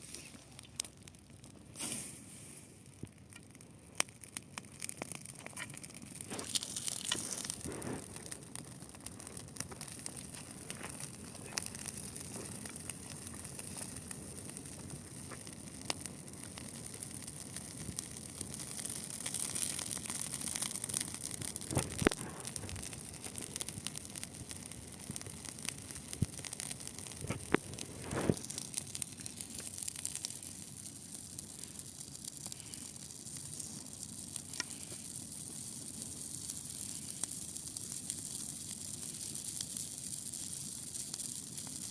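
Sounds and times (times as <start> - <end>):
bonfire crackling and hissing: 0.0 - 41.9.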